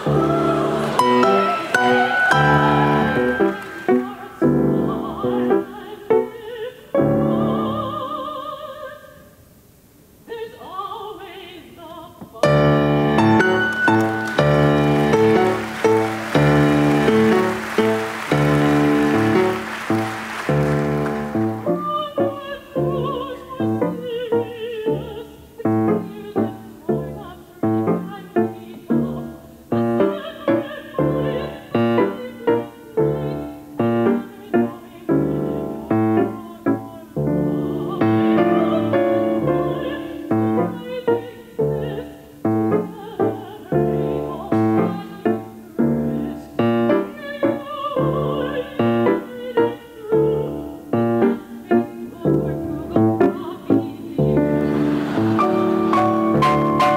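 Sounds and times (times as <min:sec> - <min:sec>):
piano playing repeated chords: 0:00.0 - 0:06.3, 0:12.4 - 0:56.9
female opera singer: 0:00.0 - 0:09.4, 0:10.2 - 0:56.9.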